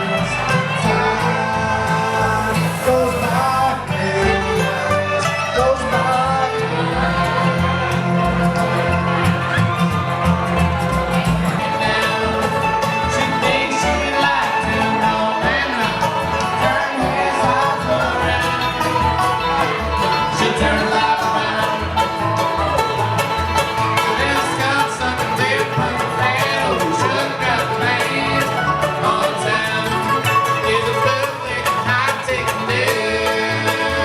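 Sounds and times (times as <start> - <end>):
bluegrass band playing: 0.0 - 34.0.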